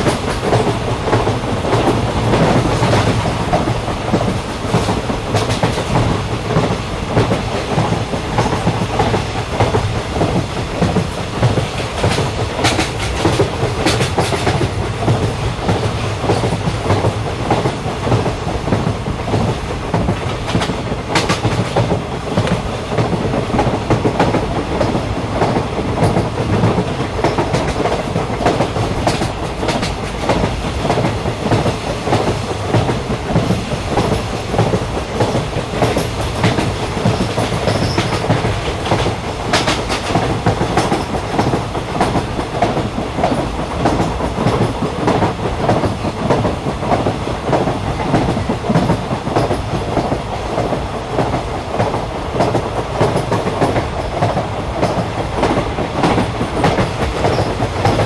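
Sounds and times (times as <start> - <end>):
train carriage rumble: 0.0 - 58.0
train wheels clickety-clack: 0.0 - 58.0.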